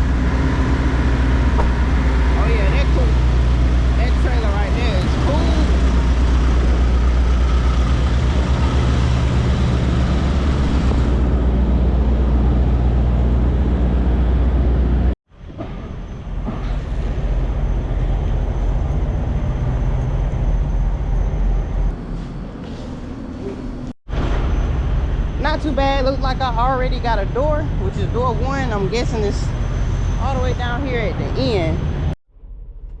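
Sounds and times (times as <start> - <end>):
truck engine low rumble: 0.0 - 33.0.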